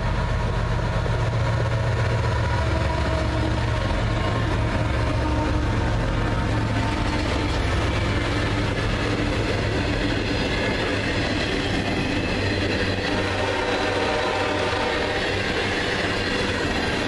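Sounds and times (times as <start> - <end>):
diesel locomotive engine drone: 0.0 - 17.0
freight cars rolling on rails: 0.0 - 17.0.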